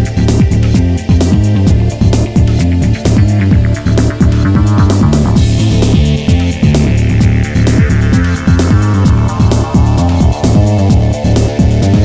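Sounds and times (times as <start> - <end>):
electronic music with bass: 0.0 - 12.0.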